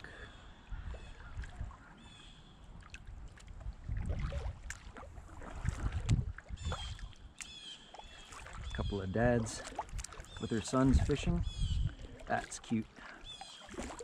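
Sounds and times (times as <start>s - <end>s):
kayak paddle dipping and swishing: 0.0s - 14.0s
water dripping: 2.8s - 14.0s.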